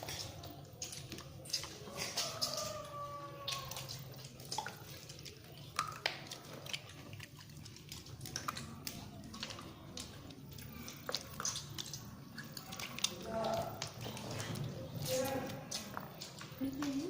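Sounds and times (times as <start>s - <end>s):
wet chewing and biting: 0.0s - 17.0s.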